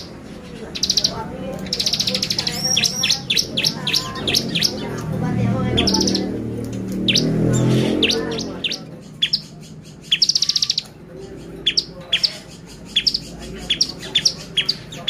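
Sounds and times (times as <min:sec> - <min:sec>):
bird buzzy trills and chirps: 0:00.0 - 0:15.0.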